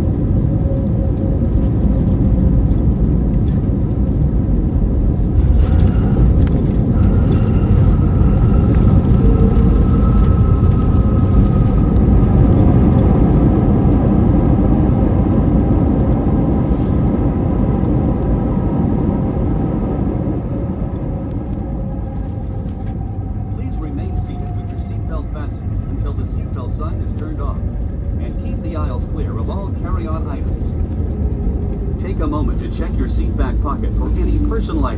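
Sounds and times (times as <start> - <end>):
aircraft engines rumbling: 0.0 - 34.9
wheels rolling on runway: 0.0 - 34.9.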